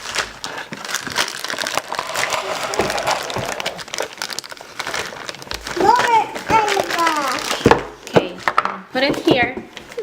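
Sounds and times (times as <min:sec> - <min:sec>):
packaging crackling and crinkling: 0:00.0 - 0:08.1.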